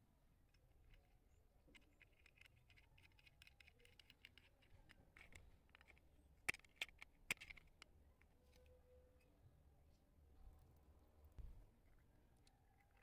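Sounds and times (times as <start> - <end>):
small metallic clicks and scratches: 0.4 - 13.0.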